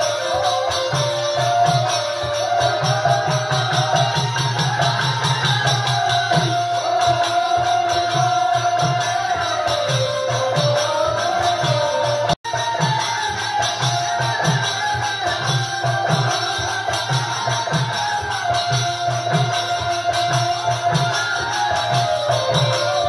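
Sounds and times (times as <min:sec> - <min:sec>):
group singing devotional music: 0:00.0 - 0:23.0
jingling hand percussion: 0:00.0 - 0:23.0.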